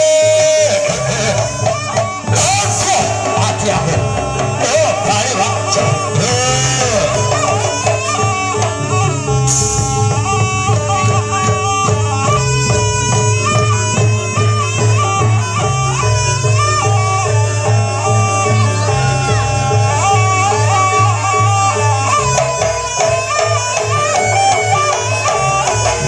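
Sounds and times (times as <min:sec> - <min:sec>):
drums and gongs beat: 0:00.0 - 0:26.0
shrill reedy double-reed trumpet: 0:04.6 - 0:26.0.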